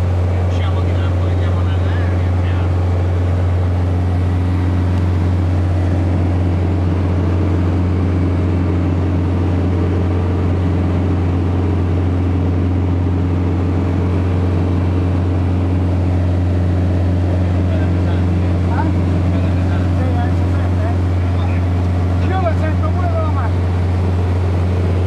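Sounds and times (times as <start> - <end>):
aircraft engine droning: 0.0 - 25.0.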